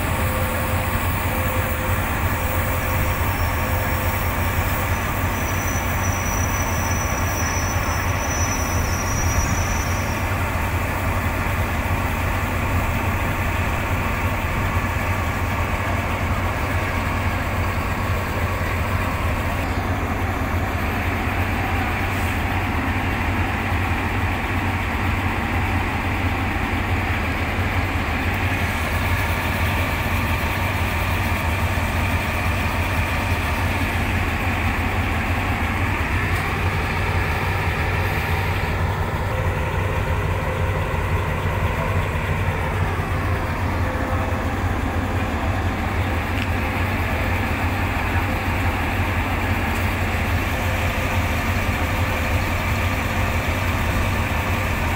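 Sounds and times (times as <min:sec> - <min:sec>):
locomotive engines droning: 0:00.0 - 0:54.9.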